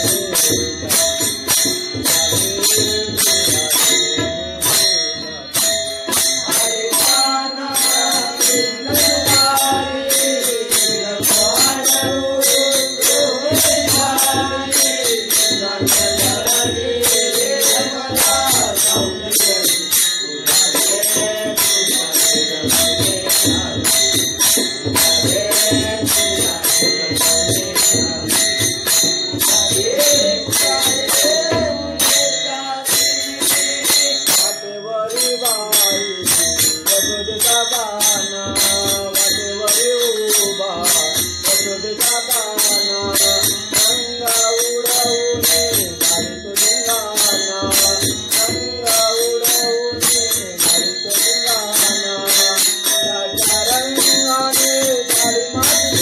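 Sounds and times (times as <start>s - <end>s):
jingling metal percussion: 0.0s - 56.0s.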